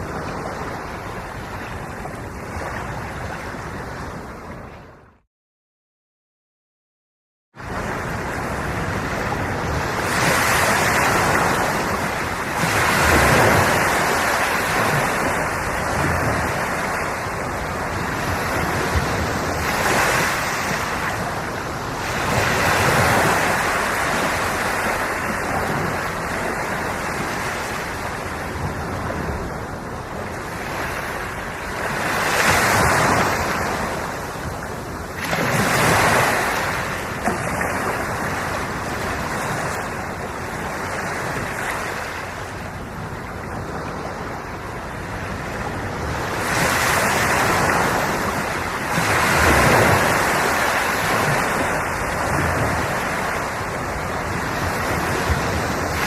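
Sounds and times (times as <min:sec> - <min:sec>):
sea waves breaking: 0:00.0 - 0:05.1, 0:07.6 - 0:56.0.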